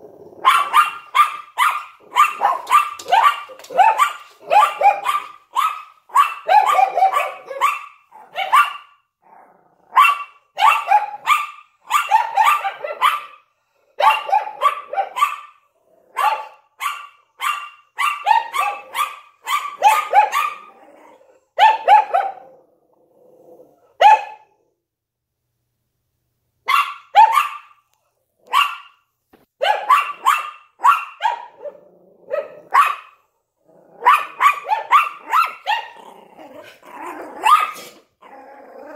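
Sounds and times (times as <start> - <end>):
small dogs barking: 0.4 - 9.1, 9.8 - 22.6, 24.0 - 24.6, 26.7 - 29.0, 29.6 - 33.3, 33.9 - 38.9.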